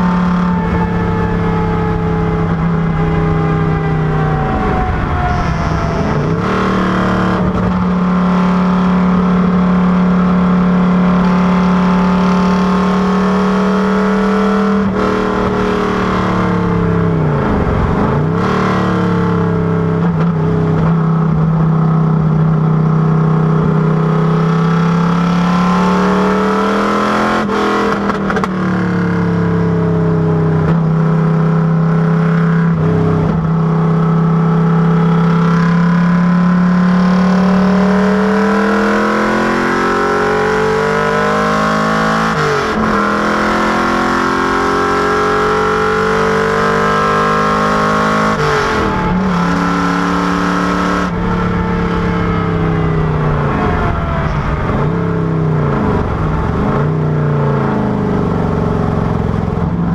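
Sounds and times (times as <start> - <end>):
car engine running under load: 0.0 - 59.9.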